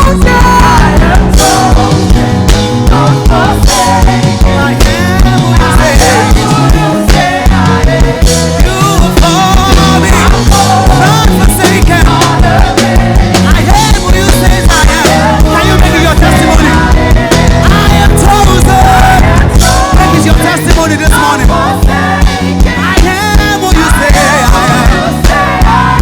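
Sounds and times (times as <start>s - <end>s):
bass: 0.0s - 26.0s
drums: 0.0s - 26.0s
keyboards: 0.0s - 26.0s
person singing: 0.0s - 26.0s.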